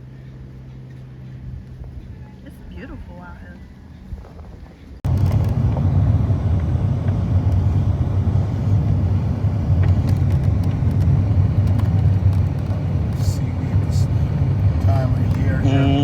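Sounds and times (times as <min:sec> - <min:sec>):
vehicle rumbling in motion: 0:00.0 - 0:16.0.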